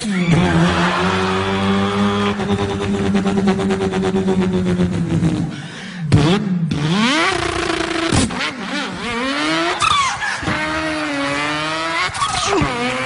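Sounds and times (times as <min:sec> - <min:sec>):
man imitating racing car engine: 0:00.0 - 0:13.0.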